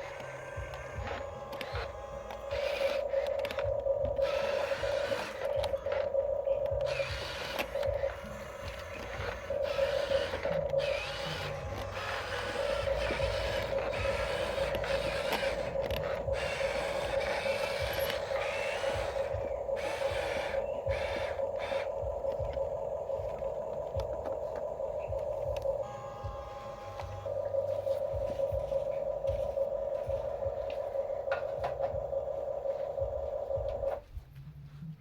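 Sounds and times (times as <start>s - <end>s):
electric motor and gear whine: 0.0s - 34.1s.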